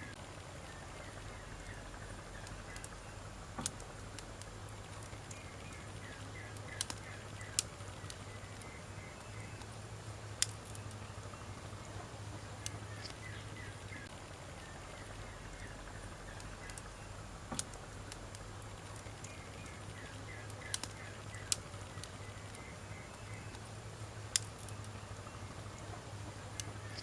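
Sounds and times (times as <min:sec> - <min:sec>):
fire hissing softly: 0:00.0 - 0:27.0
wood fire pops and snaps: 0:00.1 - 0:27.0.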